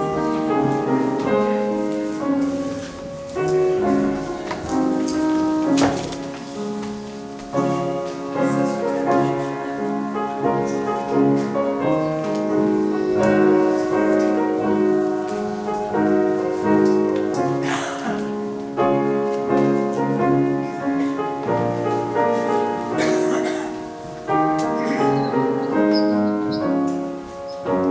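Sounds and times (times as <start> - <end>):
piano music: 0.0 - 27.9.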